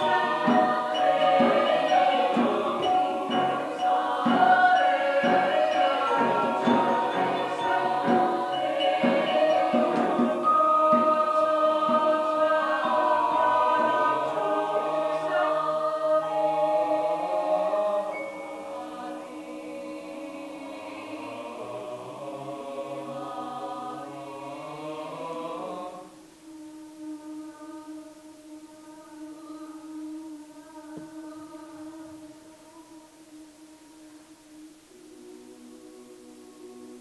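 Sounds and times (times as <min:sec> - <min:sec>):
choir singing held chords: 0:00.0 - 0:37.0.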